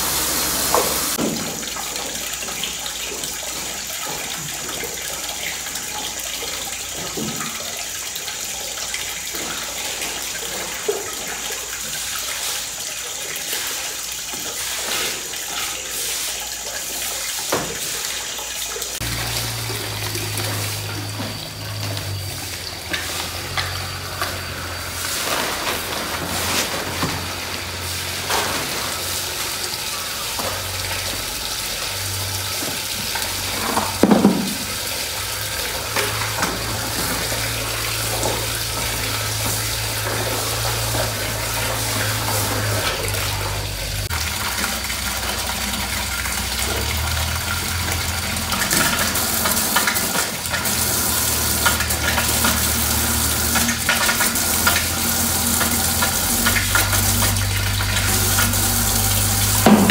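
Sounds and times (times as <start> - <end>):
water running from hose into bucket: 0.0 - 59.9.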